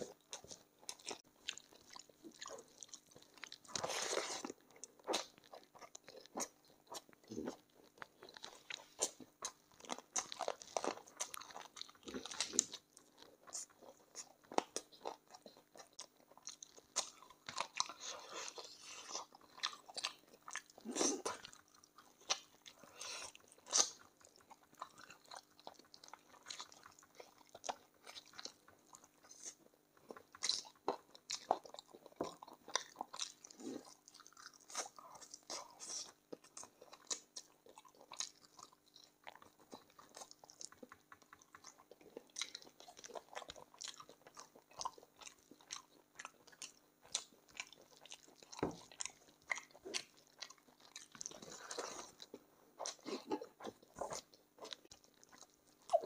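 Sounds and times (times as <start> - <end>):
person chewing and biting: 0.0 - 56.0.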